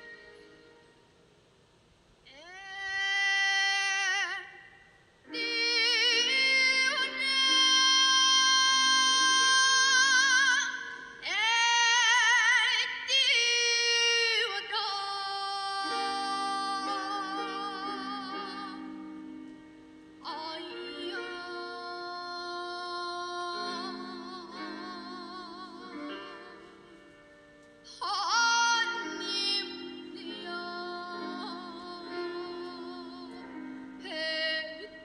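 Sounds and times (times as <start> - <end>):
high voice singing with vibrato: 2.2 - 27.2, 27.8 - 35.0.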